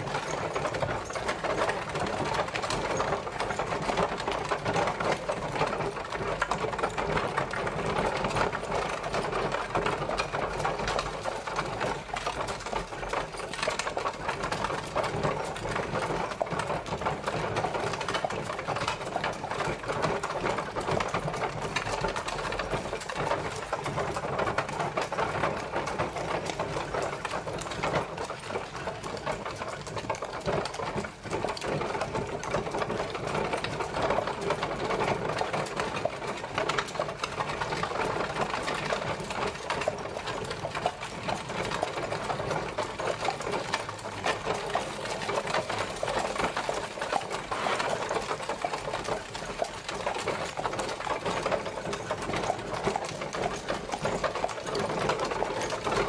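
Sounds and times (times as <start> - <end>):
horse-drawn carriage clattering: 0.0 - 56.0.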